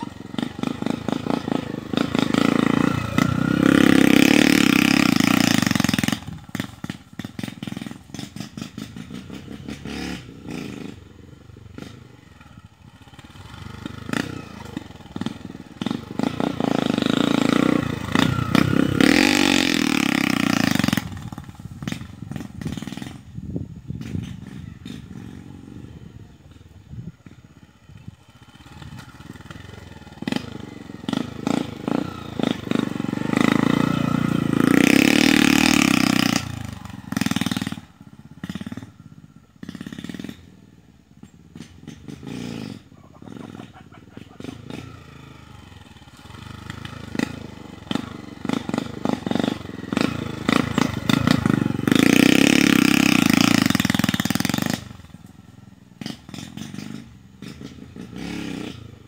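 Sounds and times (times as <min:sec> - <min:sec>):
motorcycle revving hard: 0:00.0 - 0:59.0.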